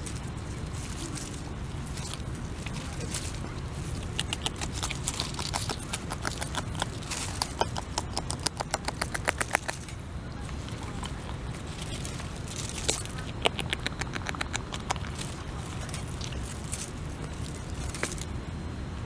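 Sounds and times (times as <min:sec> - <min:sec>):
beaver chewing twigs: 0:00.0 - 0:18.4.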